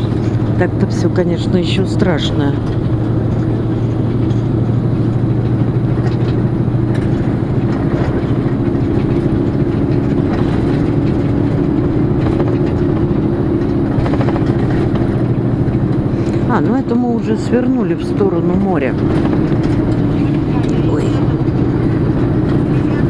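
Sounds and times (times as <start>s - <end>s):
low bus engine hum: 0.0s - 23.0s
road noise: 0.0s - 23.0s.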